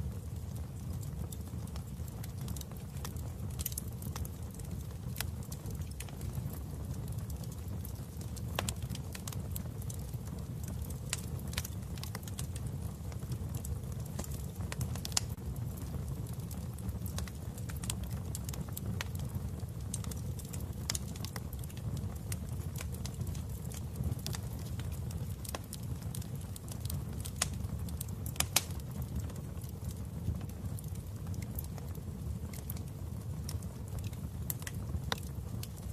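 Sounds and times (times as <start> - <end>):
fire crackling and popping: 0.0 - 35.9
fire rumbling: 0.0 - 35.9.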